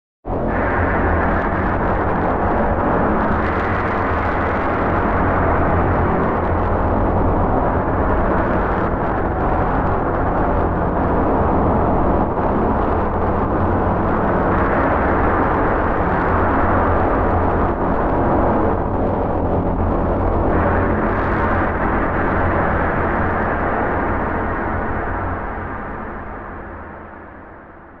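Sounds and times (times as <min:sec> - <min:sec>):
deep continuous rumble: 0:00.3 - 0:28.0.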